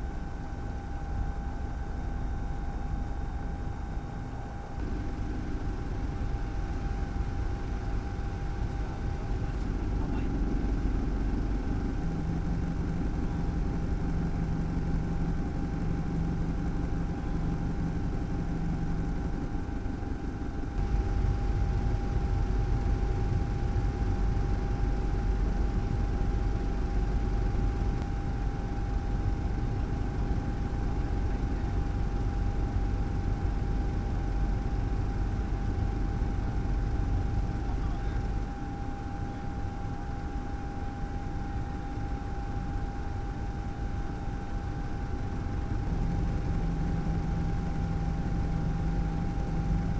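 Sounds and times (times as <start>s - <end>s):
helicopter rotor drone: 0.0s - 49.9s
turbine whine: 0.0s - 49.9s.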